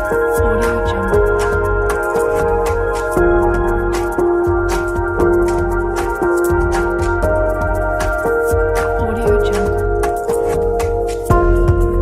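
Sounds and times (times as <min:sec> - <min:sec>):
background music with chords: 0:00.0 - 0:12.0.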